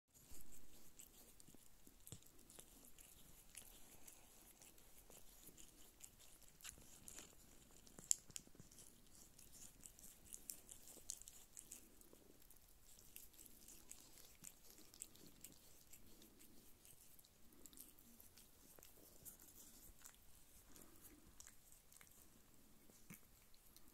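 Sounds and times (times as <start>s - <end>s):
kittens suckling wet clicks: 0.2s - 23.9s.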